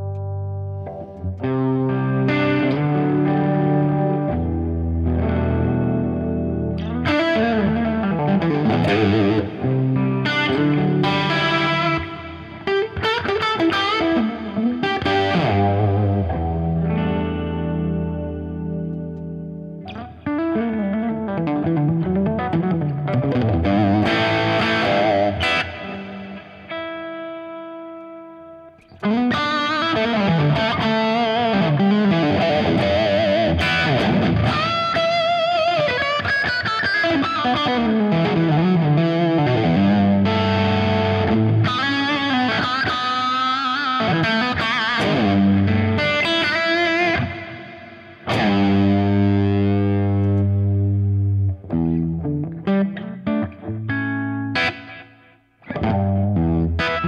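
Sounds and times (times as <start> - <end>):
overdriven electric guitar: 0.0 - 57.0.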